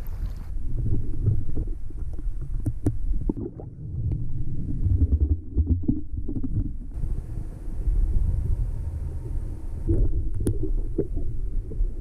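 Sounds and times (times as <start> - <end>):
muffled underwater rumble: 0.0 - 12.0.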